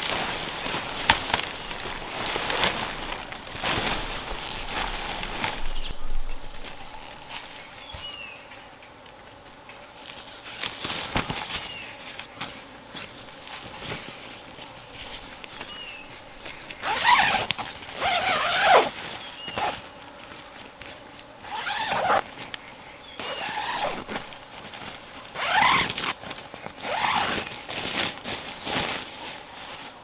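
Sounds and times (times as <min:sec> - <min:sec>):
rustling camping gear: 0:00.0 - 0:30.0.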